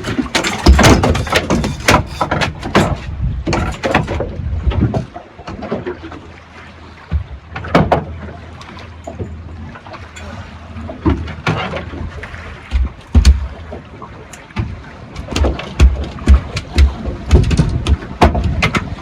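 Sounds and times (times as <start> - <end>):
wind rumble on microphone: 0.0 - 6.1, 7.0 - 19.0
boat knocks and water slaps: 0.0 - 19.0.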